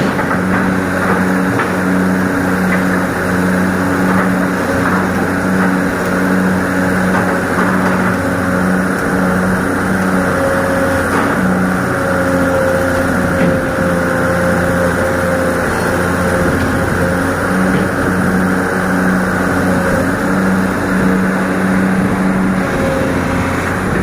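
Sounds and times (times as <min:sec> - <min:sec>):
excavator diesel engine running: 0:00.0 - 0:24.0
pulsing low hum: 0:00.0 - 0:24.0.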